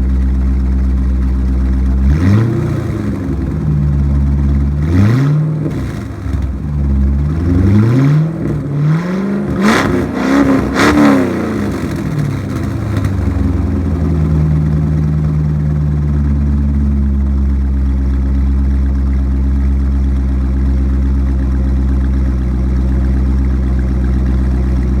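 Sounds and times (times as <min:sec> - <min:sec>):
car engine idling: 0:00.0 - 0:25.0
car engine throttle blips: 0:00.0 - 0:25.0.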